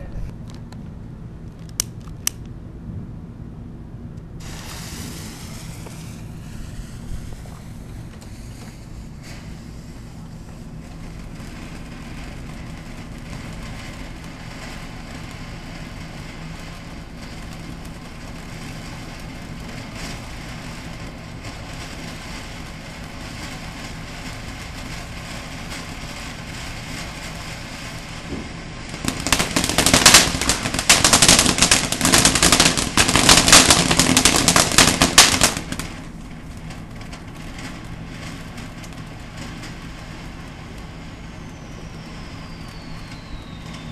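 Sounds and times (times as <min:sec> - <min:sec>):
firework fountain hissing: 0:04.4 - 0:43.9
firework rapid crackling: 0:04.4 - 0:43.9.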